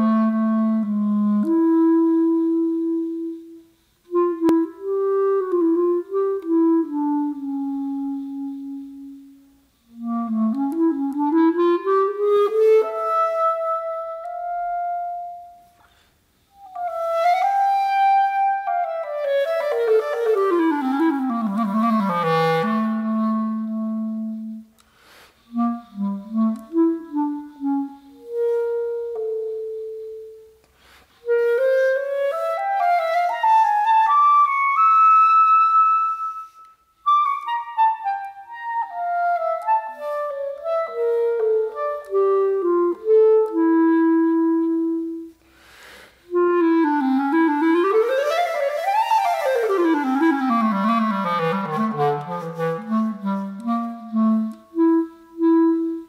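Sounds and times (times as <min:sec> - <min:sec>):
solo clarinet: 0:00.0 - 0:56.0.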